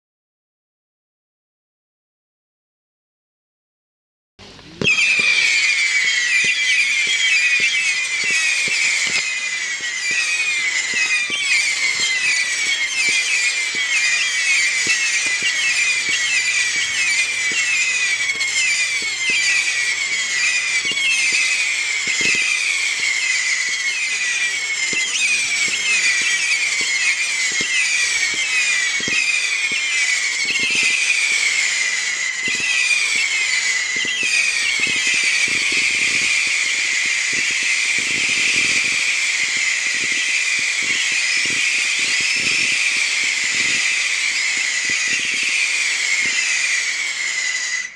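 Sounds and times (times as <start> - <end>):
whistling firework shrill whistles: 4.4 - 47.9.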